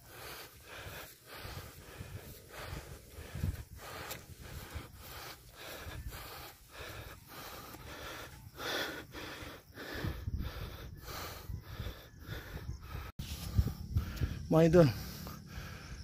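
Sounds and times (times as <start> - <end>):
person panting hard: 0.0 - 16.0.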